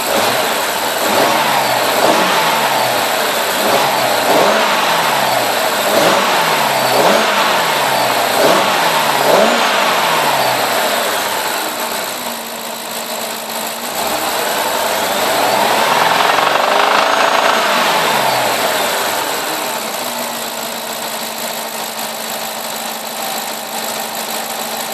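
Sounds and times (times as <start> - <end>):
car engine revving: 0.0 - 23.7
engine clatter: 0.0 - 24.9.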